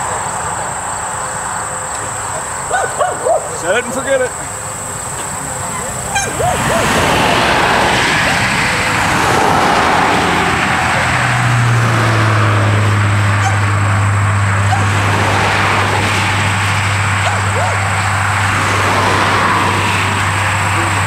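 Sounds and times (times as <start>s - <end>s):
vehicle engine hum: 0.0s - 21.0s
rushing noise: 3.6s - 21.0s.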